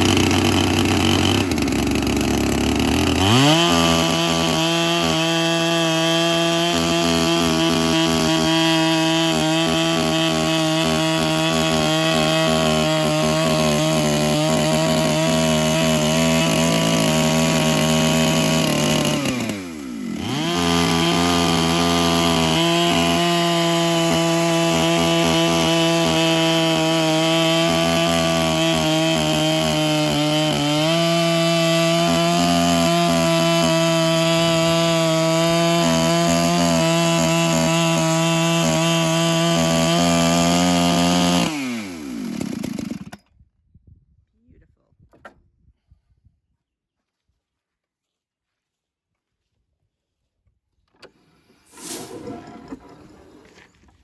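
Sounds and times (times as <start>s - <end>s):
electric chainsaw cutting log: 0.0s - 43.2s, 51.0s - 53.8s.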